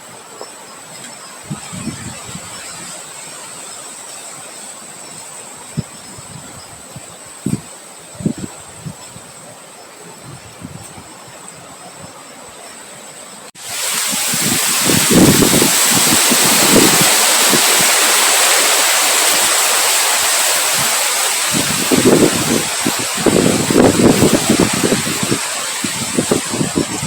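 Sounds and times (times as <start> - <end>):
wind buffeting microphone: 1.4 - 3.7, 5.0 - 9.4, 10.1 - 12.2, 13.6 - 27.0.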